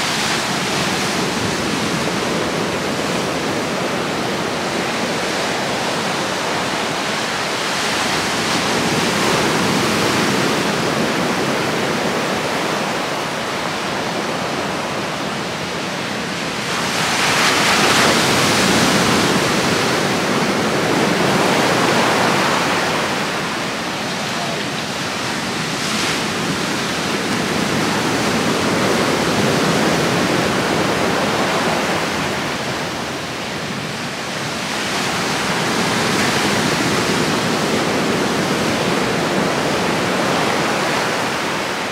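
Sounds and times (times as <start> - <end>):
waves breaking on beach: 0.0 - 41.9.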